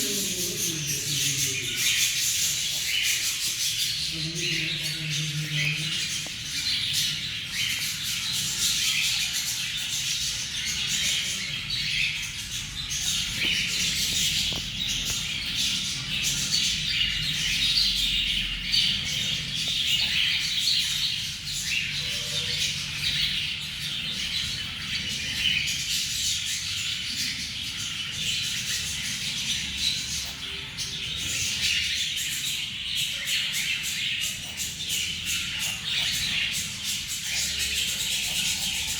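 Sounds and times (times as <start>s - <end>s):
chicks chirping and squawking: 0.0s - 38.9s.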